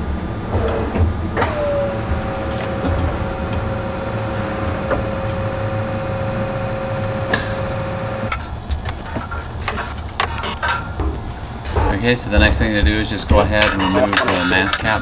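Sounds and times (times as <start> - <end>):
even-pitched whine: 0.0 - 15.0
steady mechanical hum: 0.0 - 15.0.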